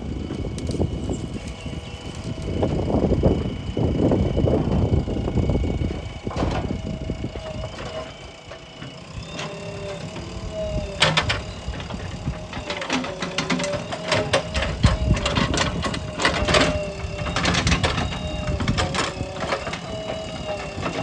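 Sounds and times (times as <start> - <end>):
diesel engine running: 0.0 - 21.0
engine whine: 0.0 - 21.0.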